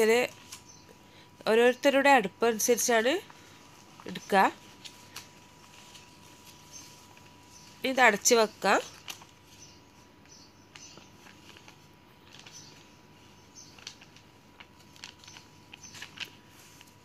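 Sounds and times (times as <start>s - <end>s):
toppings sprinkled ticking: 2.7s - 17.0s.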